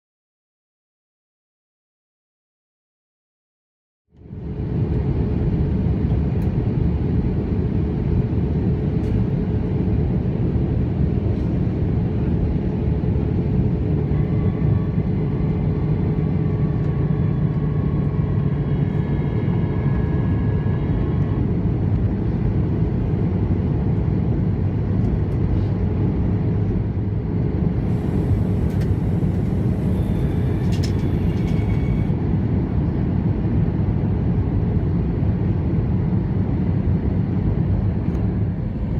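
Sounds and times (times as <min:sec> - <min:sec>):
airplane cabin rumble: 0:04.1 - 0:38.9
faint wavering engine tones: 0:04.2 - 0:38.9.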